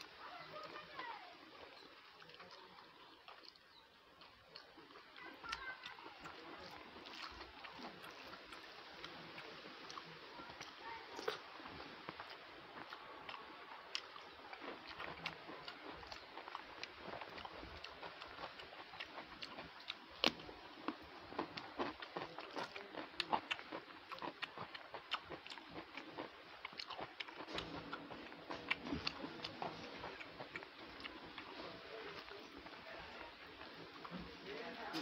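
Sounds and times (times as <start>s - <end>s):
wet chewing and lip smacks: 1.5s - 34.6s.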